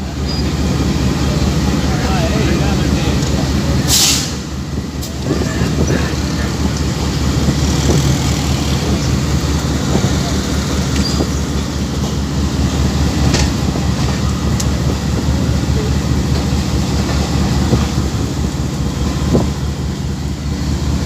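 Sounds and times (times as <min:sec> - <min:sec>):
diesel locomotive engine drone: 0:00.0 - 0:21.0
train rumbling on rails: 0:00.0 - 0:21.0.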